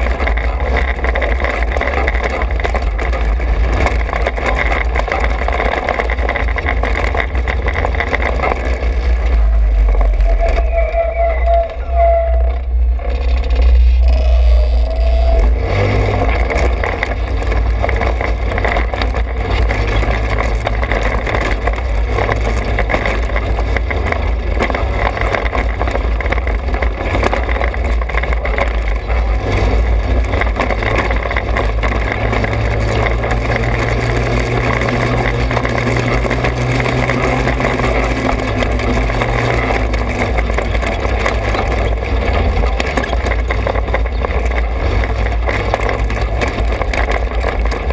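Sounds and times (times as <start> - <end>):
kart engine rumbling: 0.0 - 47.9.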